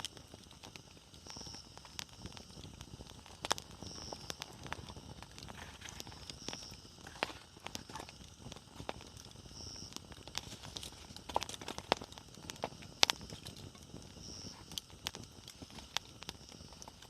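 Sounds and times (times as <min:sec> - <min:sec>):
bonfire crackling: 0:00.0 - 0:17.0
soft steady hiss: 0:00.0 - 0:17.0.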